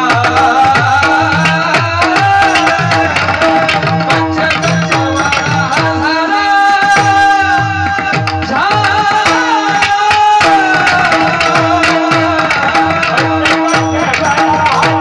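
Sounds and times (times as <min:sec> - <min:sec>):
man singing long bending notes: 0:00.0 - 0:15.0.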